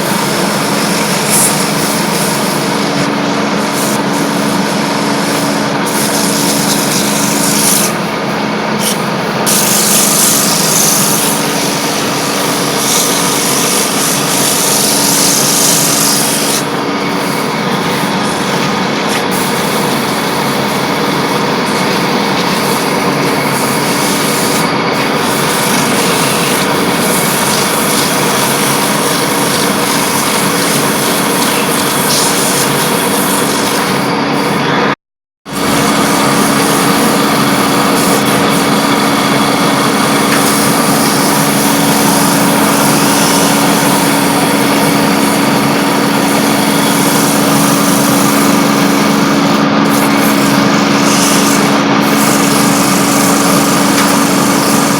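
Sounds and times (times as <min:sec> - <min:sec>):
cutter shaving spinning wood: 0:00.0 - 0:54.9
lathe motor hum: 0:00.0 - 0:54.9.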